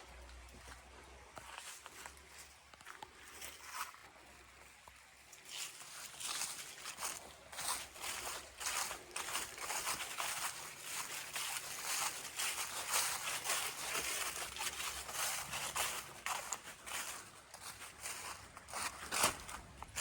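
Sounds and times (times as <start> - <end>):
footsteps crunching on dry trail: 0.0 - 20.0.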